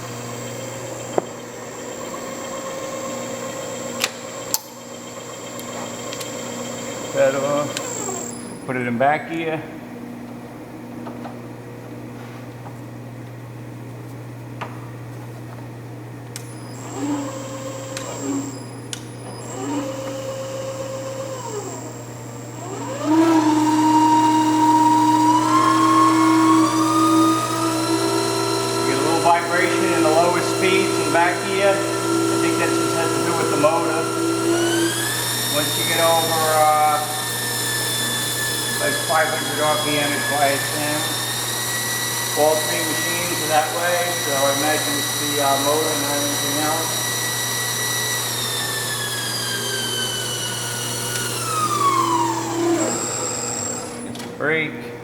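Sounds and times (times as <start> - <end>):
milling machine humming and whining: 0.0 - 8.8, 9.7 - 55.0.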